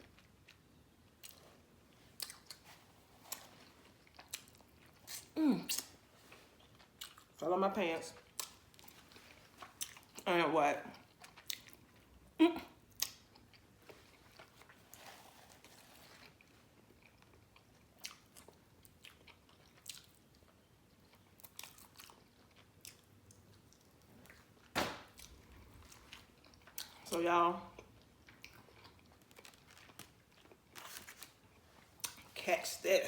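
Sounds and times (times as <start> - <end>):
person chewing food: 0.0 - 7.4, 8.2 - 10.2, 10.9 - 27.1, 27.7 - 32.4.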